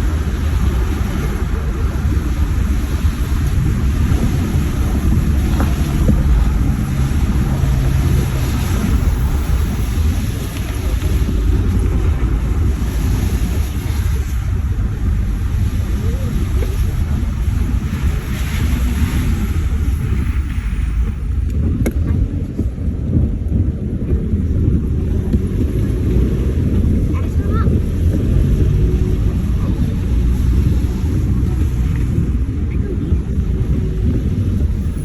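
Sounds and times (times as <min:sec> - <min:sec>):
engine and road rumble: 0:00.0 - 0:35.0
rain rushing: 0:00.0 - 0:35.0
wind: 0:00.0 - 0:35.0.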